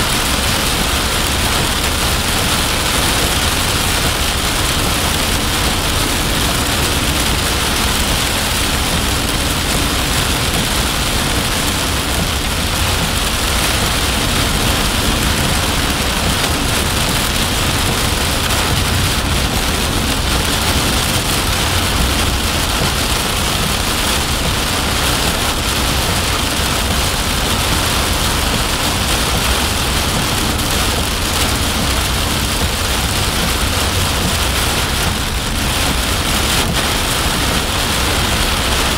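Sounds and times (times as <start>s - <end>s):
heavy rain on car roof: 0.0s - 38.9s
low road rumble: 0.0s - 38.9s.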